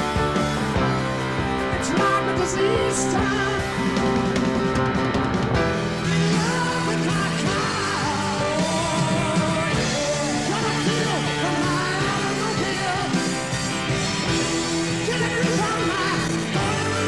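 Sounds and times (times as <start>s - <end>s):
person singing: 0.0s - 4.5s, 5.9s - 17.0s
drum kit and cymbals: 0.0s - 17.0s
rock band playing live: 0.0s - 17.0s.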